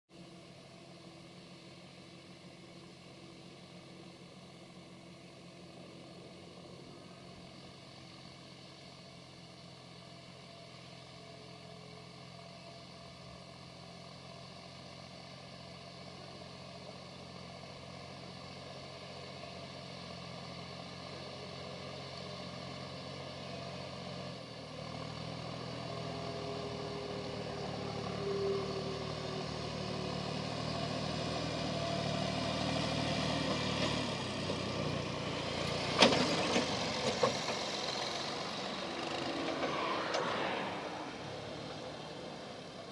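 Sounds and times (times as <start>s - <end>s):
tractor diesel engine running: 0.1s - 42.9s.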